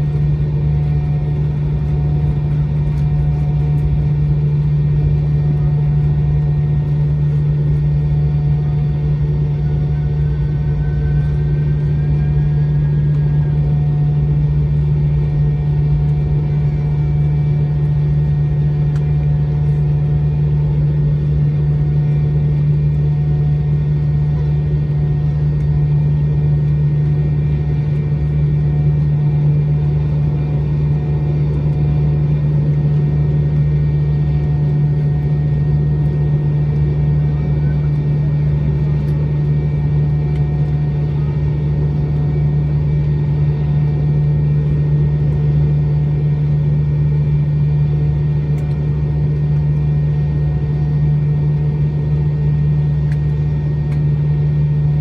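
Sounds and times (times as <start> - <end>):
airplane cabin drone while taxiing: 0.0 - 55.0.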